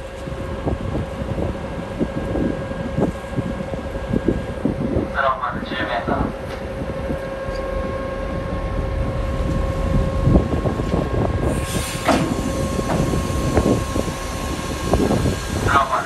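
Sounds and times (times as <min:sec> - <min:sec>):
ship's engine rumbling: 0:00.0 - 0:16.0.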